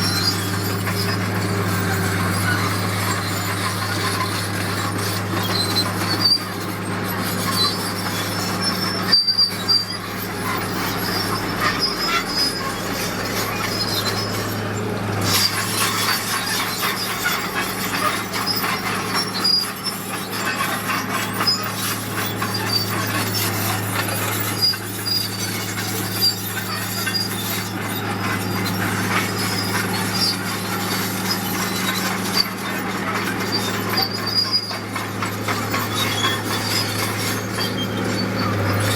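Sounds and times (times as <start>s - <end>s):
bulldozer diesel engine: 0.0s - 38.9s
steel tracks squealing and grinding: 0.0s - 38.9s.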